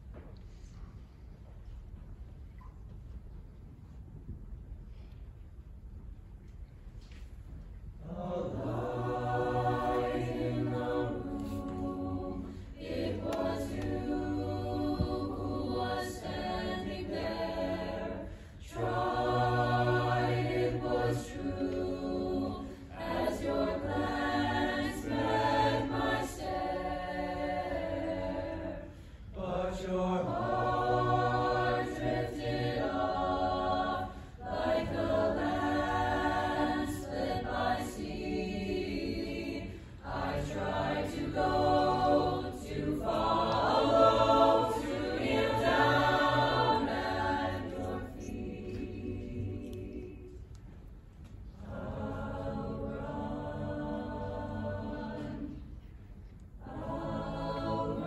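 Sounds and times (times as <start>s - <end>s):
choir of young voices singing: 8.0s - 50.6s, 51.5s - 58.0s.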